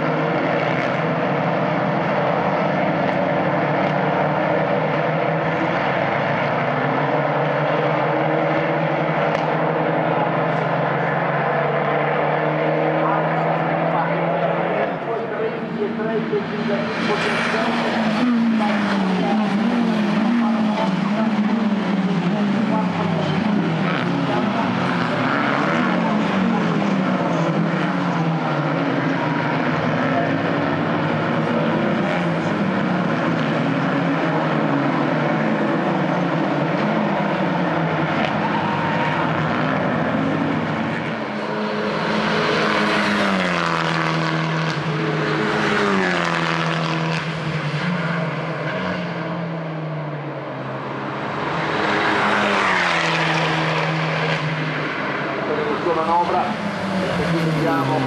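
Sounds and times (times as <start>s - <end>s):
race car engines shifting gears: 0.0s - 58.0s
race car passing: 0.0s - 58.0s.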